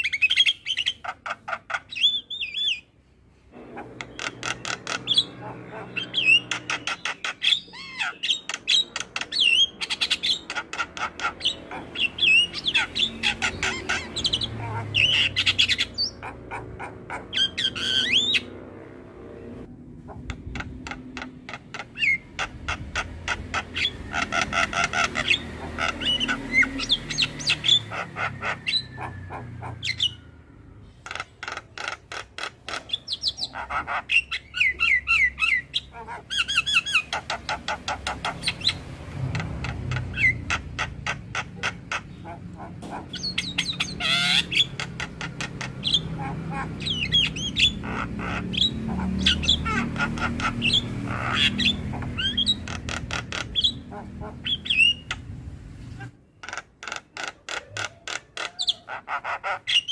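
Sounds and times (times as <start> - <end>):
bird singing varied song: 0.0 - 18.6, 20.1 - 59.9.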